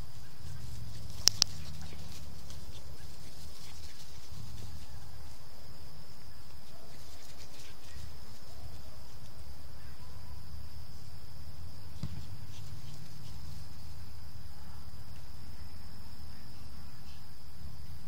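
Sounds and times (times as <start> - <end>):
high insect trilling: 0.0 - 16.8.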